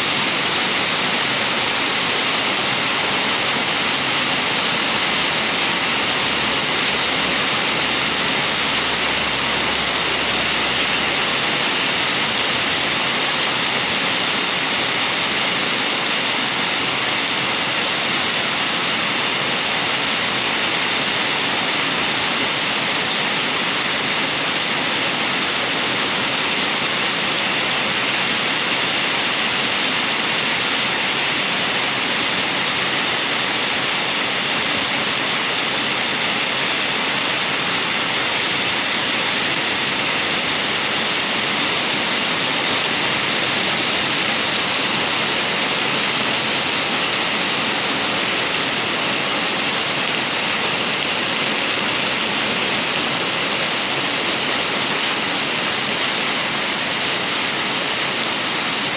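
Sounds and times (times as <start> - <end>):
heavy rain on pavement and cars: 0.0 - 58.9.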